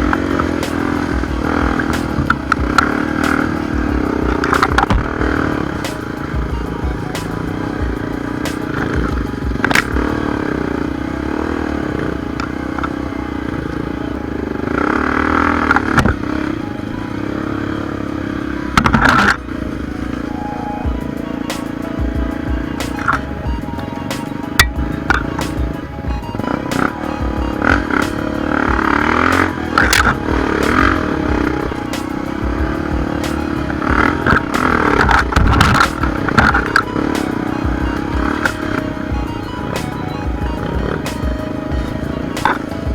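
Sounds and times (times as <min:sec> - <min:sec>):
background music: 0:00.0 - 0:42.9
motorcycle engine revving: 0:00.0 - 0:42.9.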